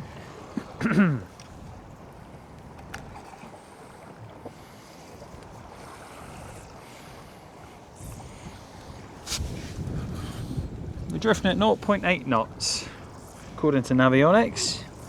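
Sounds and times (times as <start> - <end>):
steady wind: 0.0 - 15.0
water lapping around a boat: 0.0 - 15.0
faint clicks: 1.4 - 13.6.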